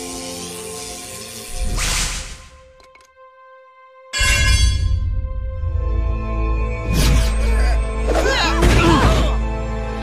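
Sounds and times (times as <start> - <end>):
dramatic orchestral music: 0.0 - 10.0.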